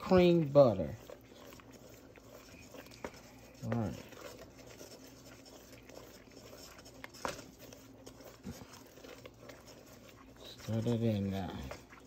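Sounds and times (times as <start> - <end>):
low steady hum: 0.0 - 12.0
wooden spoon scraping a pot: 0.0 - 12.0.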